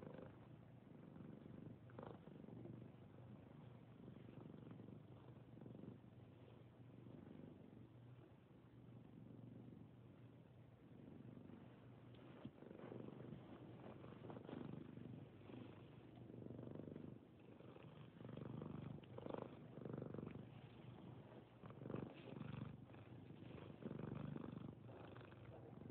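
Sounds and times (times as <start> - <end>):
cat purring: 0.0 - 25.9.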